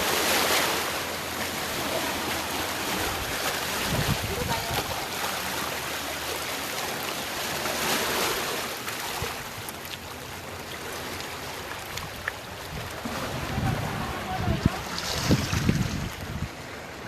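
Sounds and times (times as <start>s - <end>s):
surf rushing: 0.0s - 17.0s
wind: 0.0s - 17.0s.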